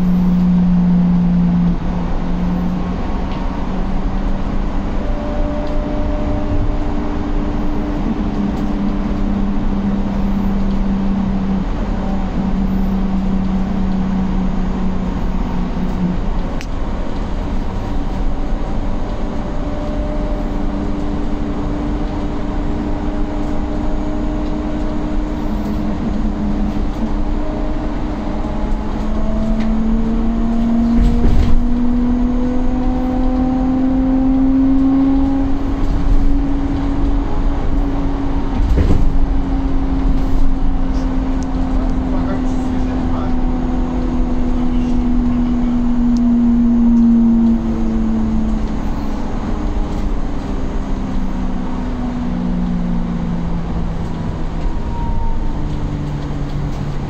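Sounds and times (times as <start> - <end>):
electric bus whine: 0.0 - 57.0
road and tyre rumble: 0.0 - 57.0.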